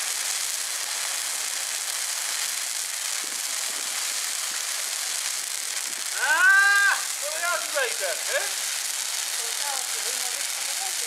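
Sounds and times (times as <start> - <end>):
fire hissing and crackling: 0.0 - 11.0.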